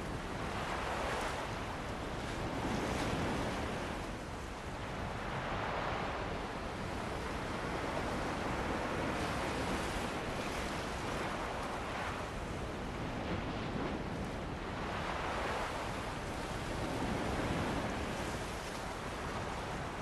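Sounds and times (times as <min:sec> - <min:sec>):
ocean waves breaking on beach: 0:00.0 - 0:20.0.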